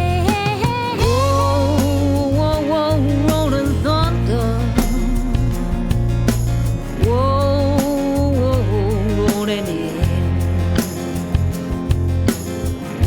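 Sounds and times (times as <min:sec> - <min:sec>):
bass: 0:00.0 - 0:13.0
blues song: 0:00.0 - 0:13.0
steady drum beat: 0:00.0 - 0:13.0
bending lead melody: 0:01.0 - 0:12.3.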